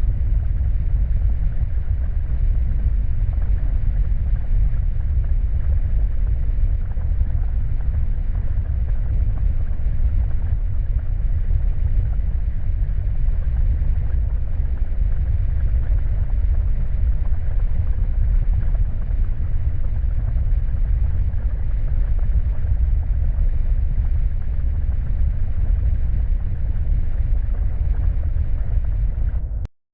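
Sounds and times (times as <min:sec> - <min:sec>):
low rumbling horror drone: 0:00.0 - 0:29.7.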